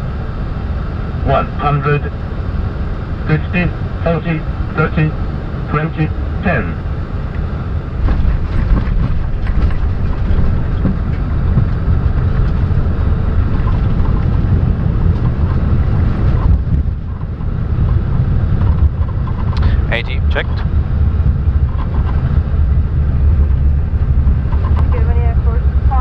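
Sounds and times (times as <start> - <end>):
aircraft rolling low rumble: 0.0 - 26.0
aircraft touchdown jolts: 3.2 - 26.0.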